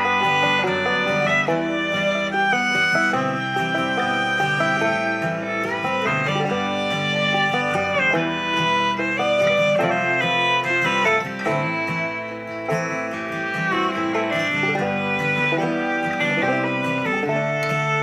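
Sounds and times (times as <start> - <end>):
bluegrass music on small speaker: 0.0 - 18.0.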